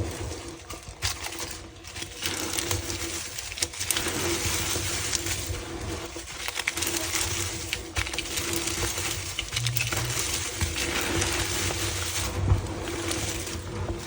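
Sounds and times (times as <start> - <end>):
confetti crackling rustle: 0.0 - 14.0.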